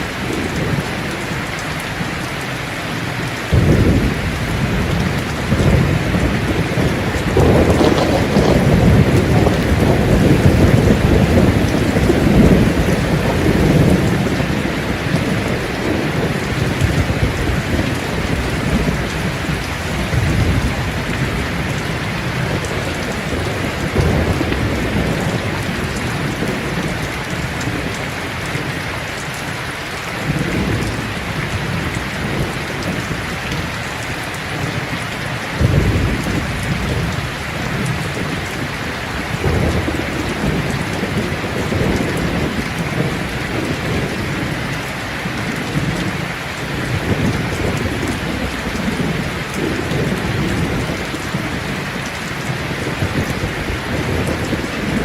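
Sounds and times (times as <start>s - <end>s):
heavy rain falling: 0.0s - 55.0s
thunder rumbling: 3.2s - 29.3s, 30.0s - 55.0s.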